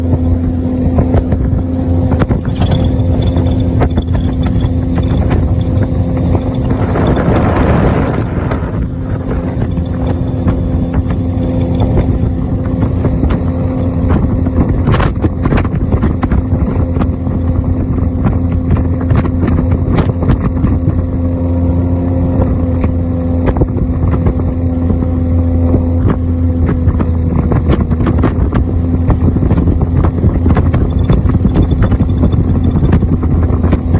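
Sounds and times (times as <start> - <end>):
jet boat engine drone: 0.0 - 33.9.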